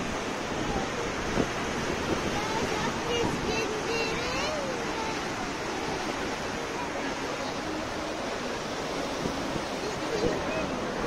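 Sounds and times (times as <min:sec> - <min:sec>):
sea waves breaking over rocks: 0:00.0 - 0:11.0.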